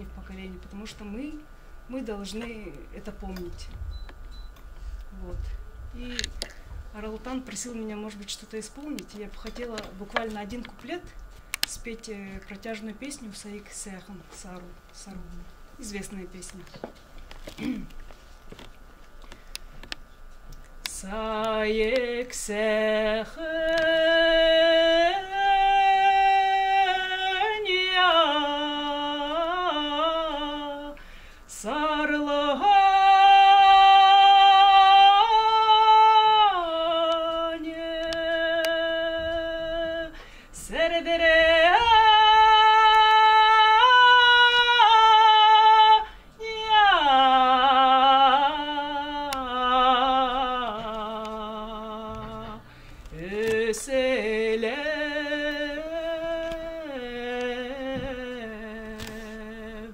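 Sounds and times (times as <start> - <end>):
woman singing unaccompanied: 0.0 - 3.9, 5.0 - 16.9, 20.8 - 59.9.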